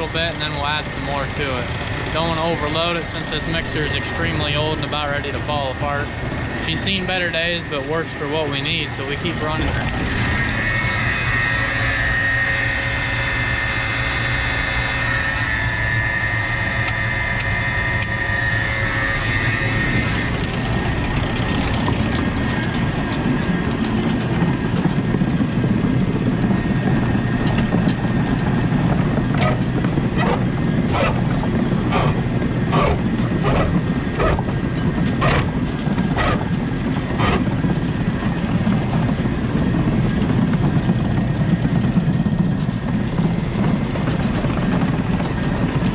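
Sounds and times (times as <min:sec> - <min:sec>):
tractor running feed mixer: 0:00.0 - 0:45.9.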